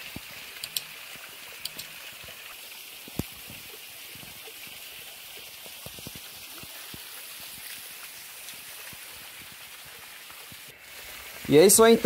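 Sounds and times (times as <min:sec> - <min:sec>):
water drips: 0:00.0 - 0:12.0
waterfall into rock pool: 0:00.0 - 0:12.0.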